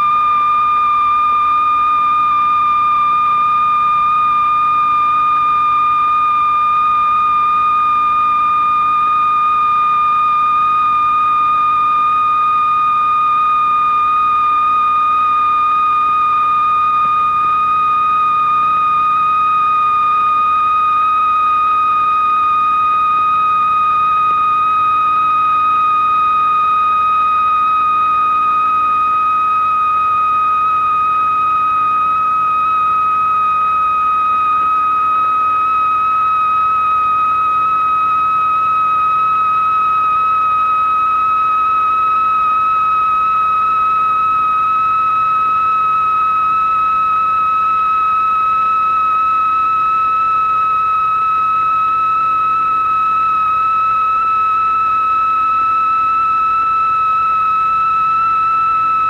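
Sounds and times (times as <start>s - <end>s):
high sine-wave tone: 0.0s - 59.0s.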